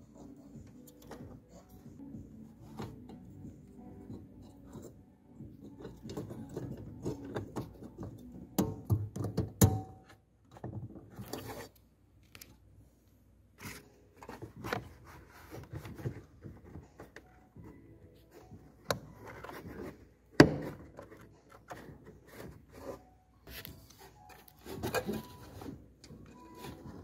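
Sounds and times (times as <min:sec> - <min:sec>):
faint music: 0:00.0 - 0:27.0.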